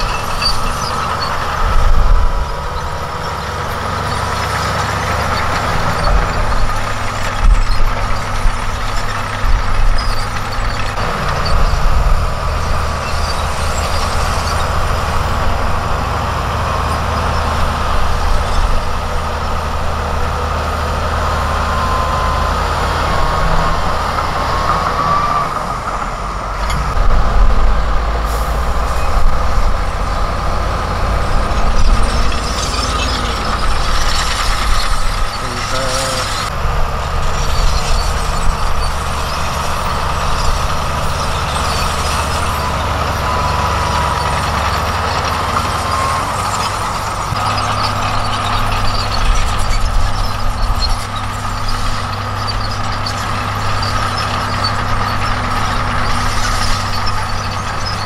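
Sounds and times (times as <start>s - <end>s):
heavy diesel engines rumbling: 0.0s - 58.0s.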